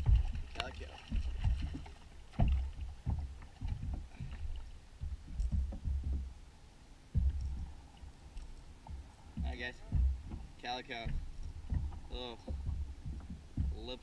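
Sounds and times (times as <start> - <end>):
water knocking against plastic hull: 0.0 - 6.4, 7.1 - 8.2, 8.8 - 14.0.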